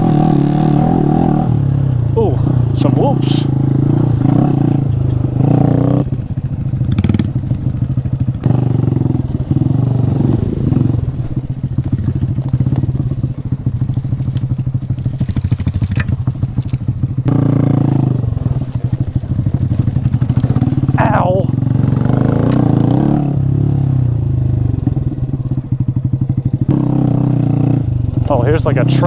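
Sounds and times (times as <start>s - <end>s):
motorcycle engine running under load: 0.0s - 29.0s.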